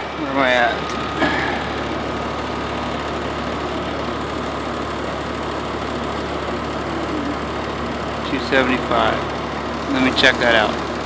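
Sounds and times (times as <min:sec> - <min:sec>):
heat pump humming: 0:00.0 - 0:11.0.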